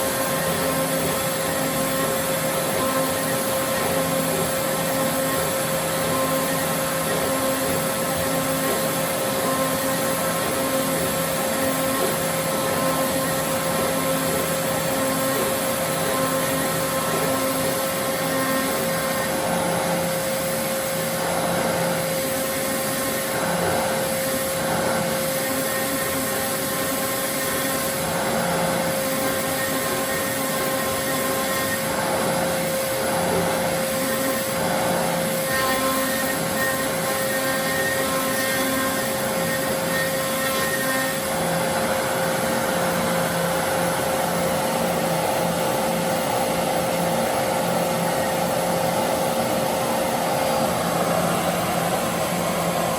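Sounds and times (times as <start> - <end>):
router spindle whine: 0.0 - 52.9.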